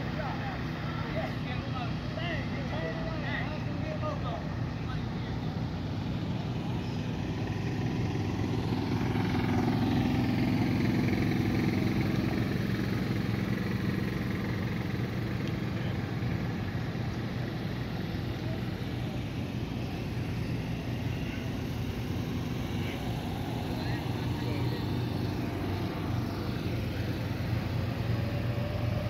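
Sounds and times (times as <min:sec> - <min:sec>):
drag car engines idling: 0:00.0 - 0:29.0.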